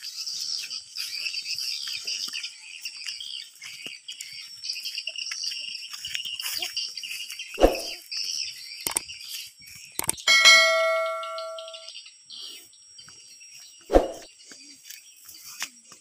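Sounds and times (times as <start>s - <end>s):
birds chirping: 0.0s - 15.5s.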